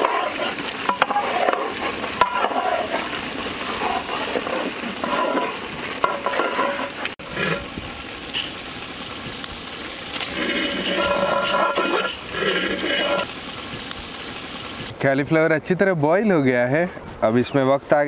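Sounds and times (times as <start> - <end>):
curry bubbling and sizzling: 0.0 - 14.9.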